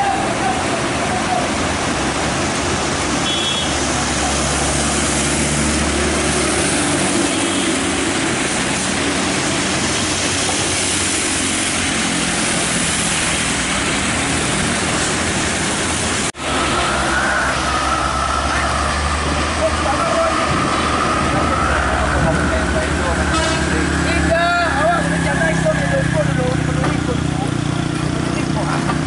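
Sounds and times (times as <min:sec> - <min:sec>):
tyres hissing on wet road: 0:00.0 - 0:29.0
vehicle engines running: 0:00.0 - 0:29.0.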